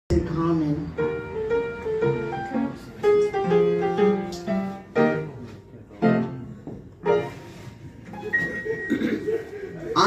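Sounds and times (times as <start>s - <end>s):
piano chords: 0.1s - 10.0s.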